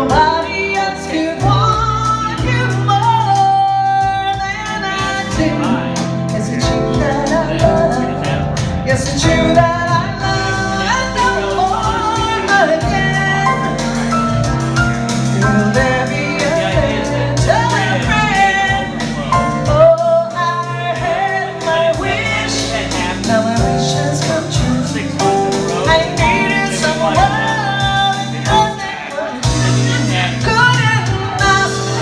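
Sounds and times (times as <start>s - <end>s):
woman singing: 0.0s - 14.2s, 15.1s - 32.0s
piano: 0.0s - 32.0s.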